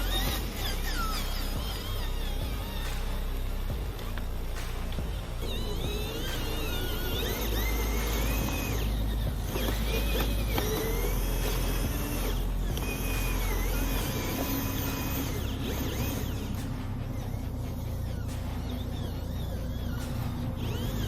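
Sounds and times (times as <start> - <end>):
electric motors whining: 0.0 - 21.0
steady low hum: 0.0 - 21.0.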